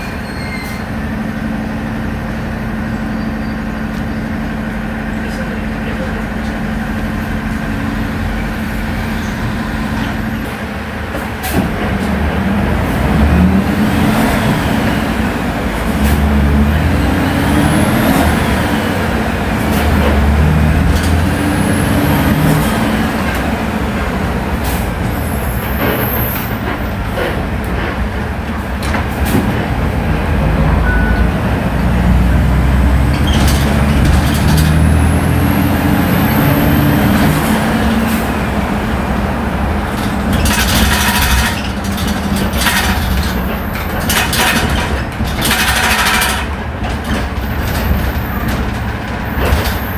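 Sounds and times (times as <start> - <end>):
bus engine running: 0.0 - 49.9
engine whine: 0.9 - 49.9.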